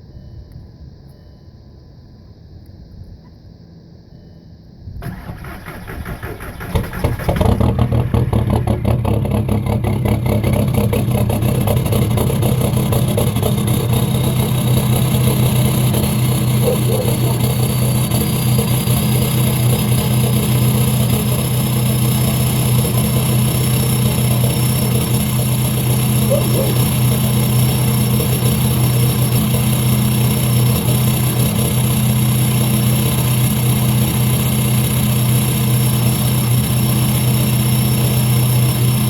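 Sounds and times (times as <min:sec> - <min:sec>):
diesel engine cranking and idling: 0:05.0 - 0:39.0.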